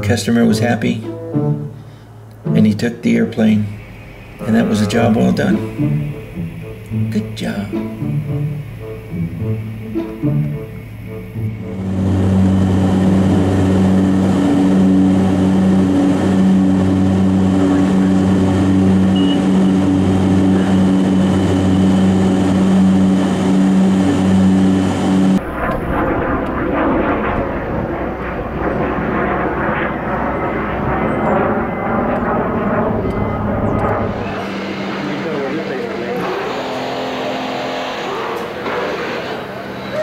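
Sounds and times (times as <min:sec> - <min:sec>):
airplane climbing away: 0:00.0 - 0:40.0
propeller airplane engine drone: 0:00.0 - 0:40.0.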